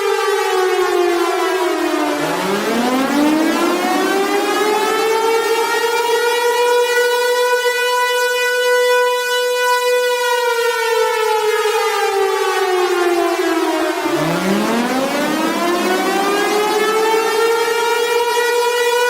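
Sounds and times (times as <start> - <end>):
civil defence siren wailing: 0.0 - 19.0.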